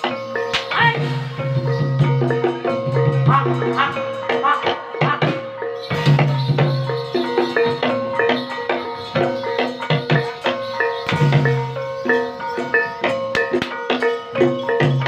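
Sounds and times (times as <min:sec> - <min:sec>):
hand drumming: 0:00.0 - 0:15.0
keyed percussion pattern: 0:00.0 - 0:15.0.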